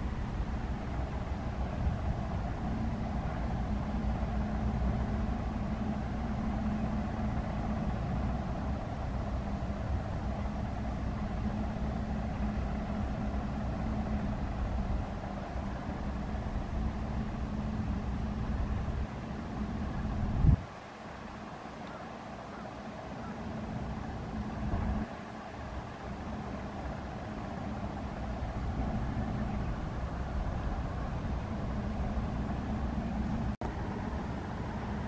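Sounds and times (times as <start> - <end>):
distant traffic rumble: 0.0 - 35.0
low hum: 0.0 - 35.0.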